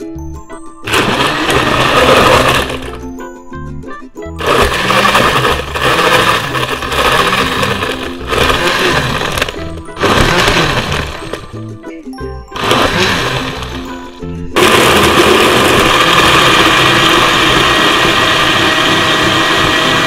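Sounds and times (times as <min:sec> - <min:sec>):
countertop blender running: 0:00.9 - 0:03.1, 0:04.4 - 0:11.6, 0:12.5 - 0:20.0.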